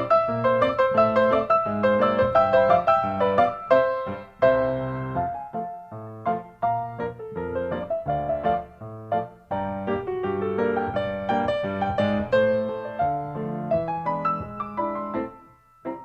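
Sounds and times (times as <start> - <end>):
lively piano music: 0.0 - 16.0.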